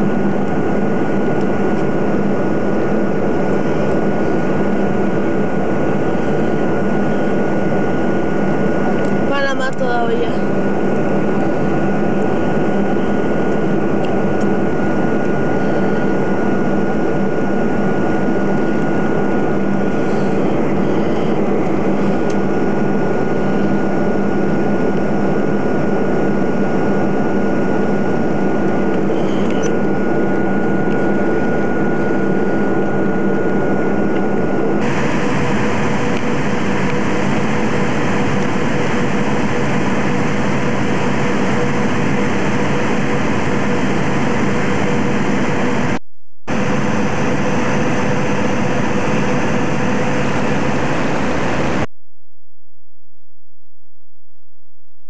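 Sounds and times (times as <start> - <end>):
airliner cabin engine noise: 0.0 - 51.9
thin steady whine: 0.0 - 55.0.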